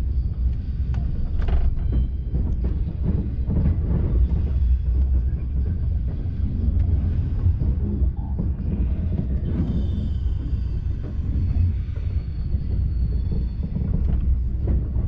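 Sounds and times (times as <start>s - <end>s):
train rumble from inside car: 0.0s - 15.0s.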